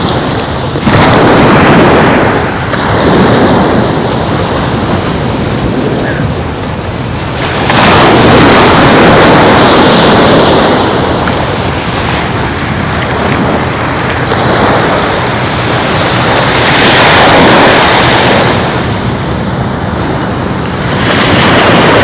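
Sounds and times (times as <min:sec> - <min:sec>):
surf washing onto beach: 0:00.0 - 0:22.0
wind on microphone: 0:00.0 - 0:22.0.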